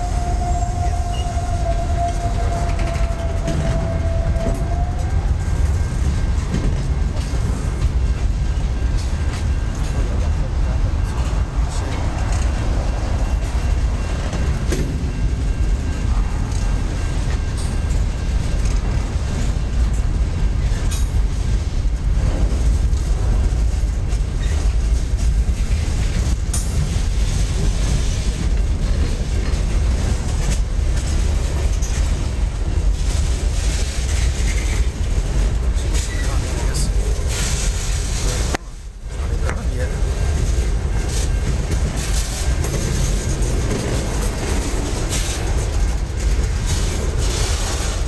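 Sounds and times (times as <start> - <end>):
train wheels rumbling on rails: 0.0 - 48.0
wheels clanking over rail joints: 0.0 - 48.0.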